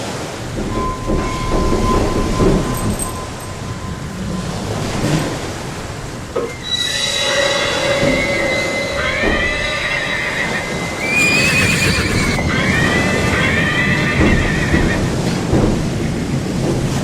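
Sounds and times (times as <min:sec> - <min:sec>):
high wavering animal call: 0:00.6 - 0:15.0.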